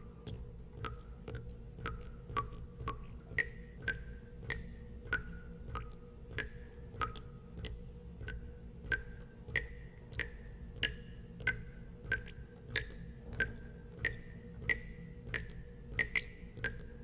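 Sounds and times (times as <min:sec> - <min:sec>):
water drops dripping into water: 0:00.0 - 0:17.0.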